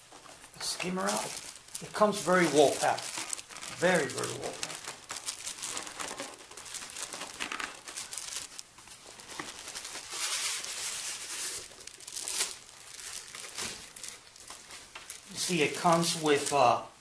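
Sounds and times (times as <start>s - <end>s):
packaging rustling and crinkling: 0.0s - 16.8s.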